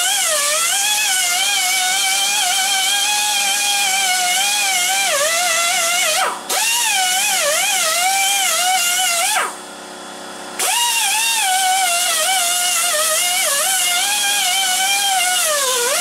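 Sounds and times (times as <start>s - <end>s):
power tool motor whining: 0.0s - 9.6s, 10.6s - 16.0s.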